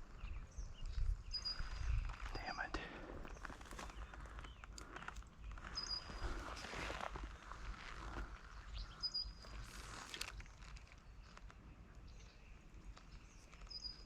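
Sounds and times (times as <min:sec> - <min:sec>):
soft rustles and clicks: 0:01.6 - 0:14.0.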